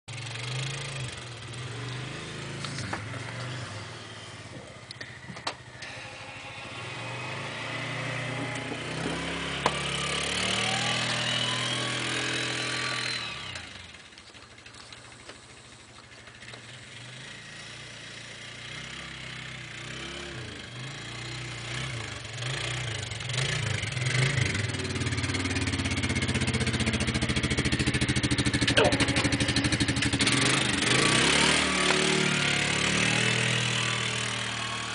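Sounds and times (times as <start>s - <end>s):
quad engine running: 0.1s - 34.9s.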